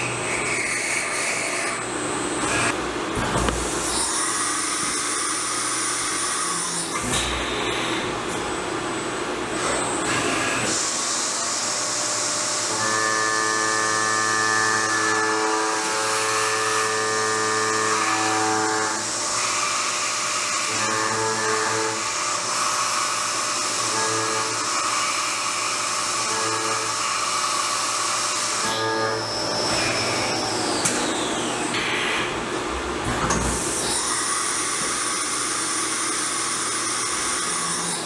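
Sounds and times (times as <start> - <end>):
cutter whine: 0.0 - 8.1, 9.5 - 38.0.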